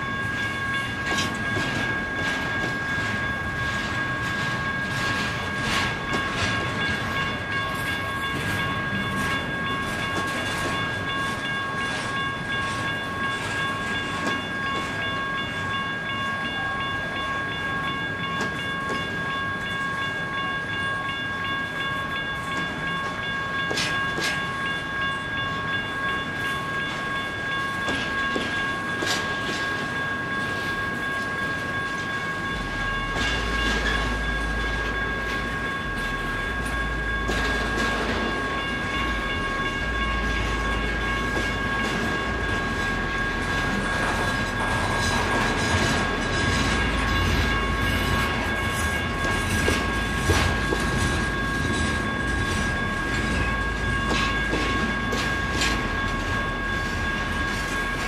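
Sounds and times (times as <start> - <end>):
train wheels clacking over rails: 0.0 - 15.5, 22.1 - 24.8, 25.4 - 58.0
crossing warning bell ringing: 0.0 - 58.0.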